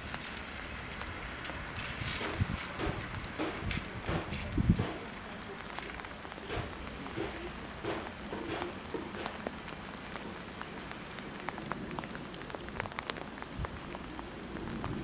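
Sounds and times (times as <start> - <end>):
light ticks and patters: 0.0 - 15.0.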